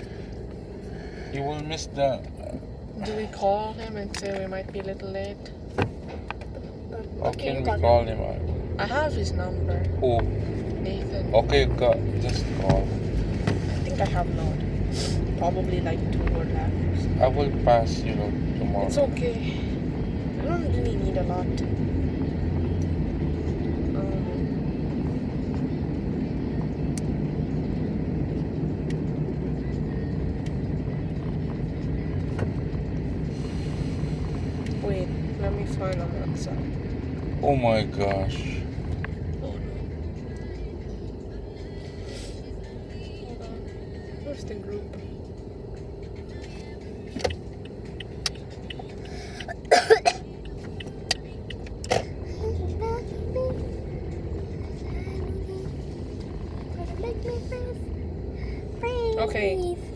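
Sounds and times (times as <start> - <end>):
car engine rumble: 0.0 - 59.9
road noise inside car: 0.0 - 59.9.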